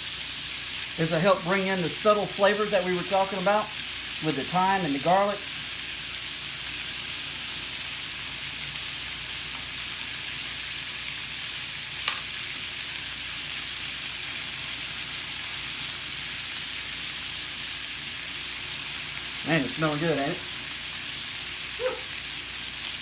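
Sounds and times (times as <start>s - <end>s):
steak sizzling in a skillet: 0.0s - 23.0s.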